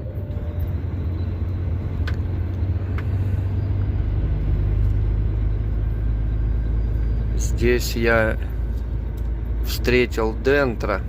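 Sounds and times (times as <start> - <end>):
truck diesel engine rumble: 0.0 - 11.0.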